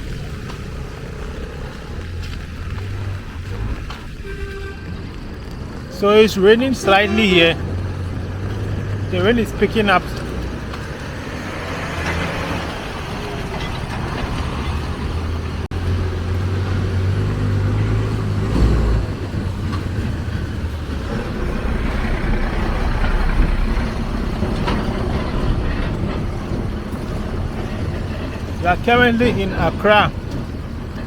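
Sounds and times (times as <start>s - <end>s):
heavy vehicle engine rumbling: 0.0s - 31.0s
rain hissing: 0.0s - 31.0s
tyres on wet road: 0.0s - 31.0s.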